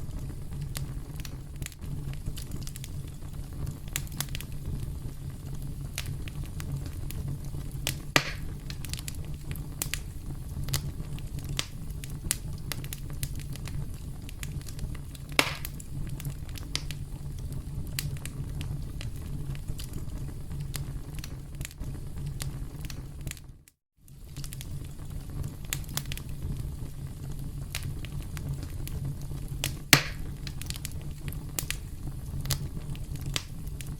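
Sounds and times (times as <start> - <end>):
campfire crackling: 0.0 - 33.9
fire popping: 0.0 - 33.9.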